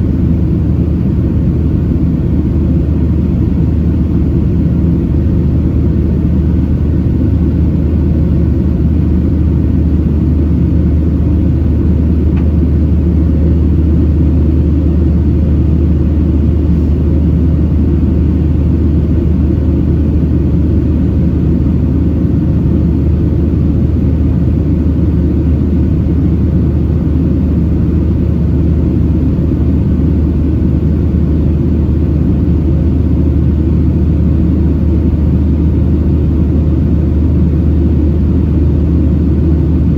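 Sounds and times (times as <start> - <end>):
jet engine rumble inside cabin: 0.0 - 39.9.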